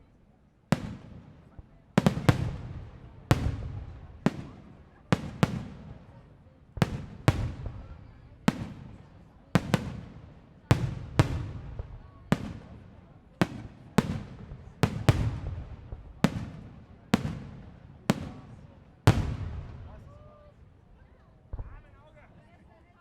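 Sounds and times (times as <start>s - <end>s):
fireworks bursting with echo: 0.7s - 20.6s.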